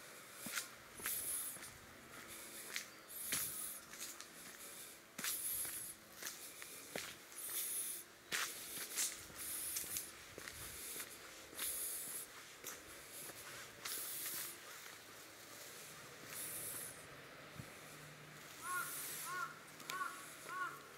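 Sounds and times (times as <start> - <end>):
footsteps crunching on dry leaves: 0.4 - 16.9, 18.4 - 20.8.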